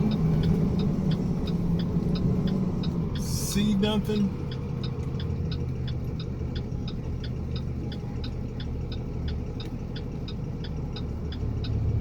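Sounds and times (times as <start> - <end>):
truck engine and road rumble: 0.0 - 12.0
turn signal clicking: 0.0 - 12.0.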